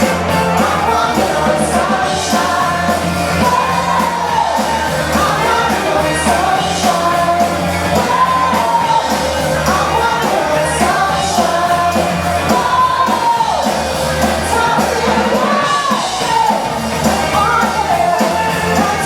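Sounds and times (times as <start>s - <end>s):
crowd shouting and whooping: 0.0s - 19.0s
house music over sound system: 0.0s - 19.0s
person singing: 0.0s - 19.0s.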